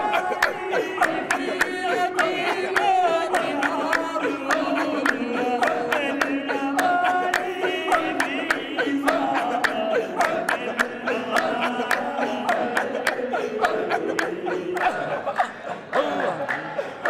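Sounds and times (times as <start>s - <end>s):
hand claps: 0.0s - 17.0s
men chanting together: 0.0s - 17.0s.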